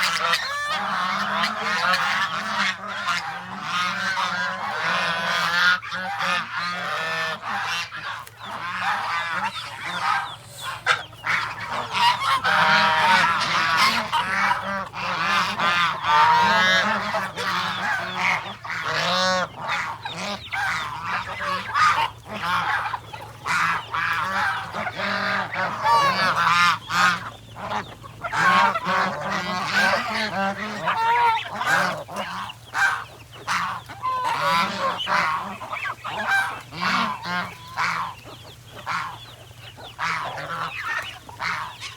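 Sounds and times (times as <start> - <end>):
geese honking: 0.0 - 41.9.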